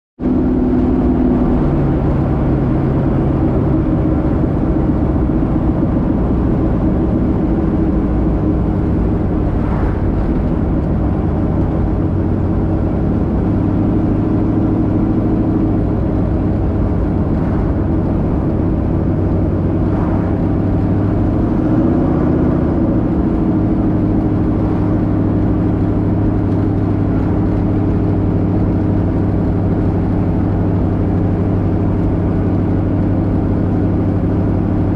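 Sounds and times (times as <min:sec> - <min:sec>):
car engine running: 0:00.2 - 0:34.9.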